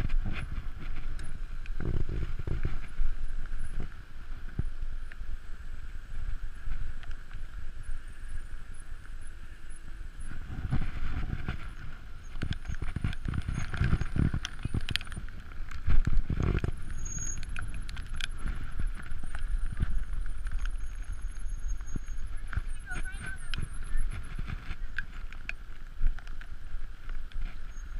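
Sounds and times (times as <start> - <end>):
low rumble of tyres and air: 0.0 - 27.9.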